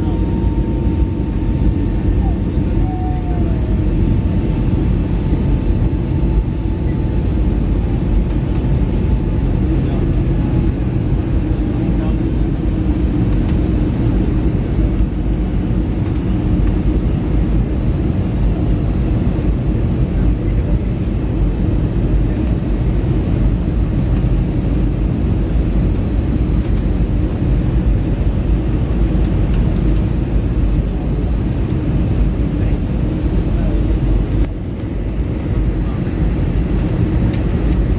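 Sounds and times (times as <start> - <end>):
airplane cabin noise: 0.0 - 37.9.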